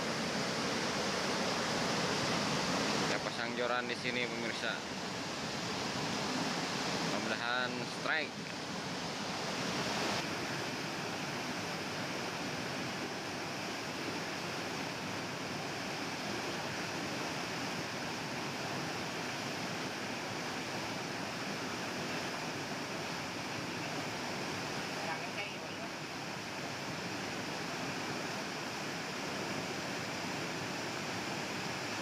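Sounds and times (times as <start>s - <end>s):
river flowing: 0.0s - 32.0s.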